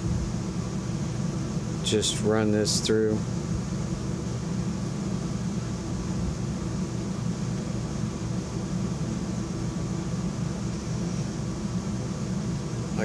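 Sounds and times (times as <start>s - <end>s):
air conditioning hiss: 0.0s - 13.0s
air conditioning hum: 0.0s - 13.0s.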